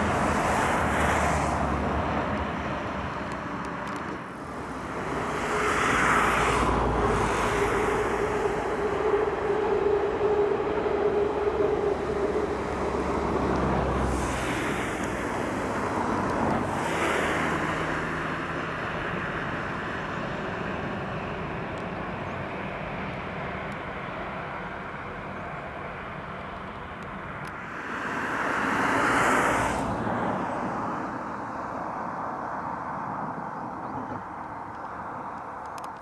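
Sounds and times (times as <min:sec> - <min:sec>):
distant train rumbling over viaduct: 0:00.0 - 0:36.0.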